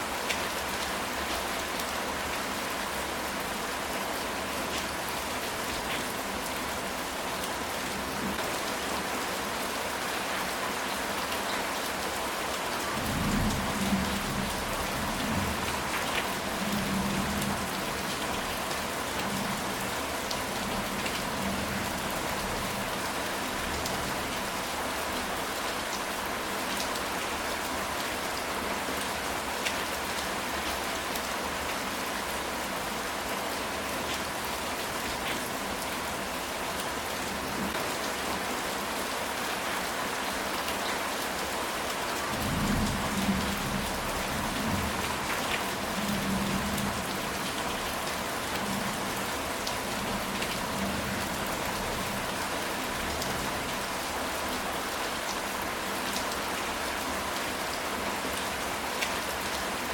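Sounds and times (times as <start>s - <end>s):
rain on a tile roof: 0.0s - 59.9s.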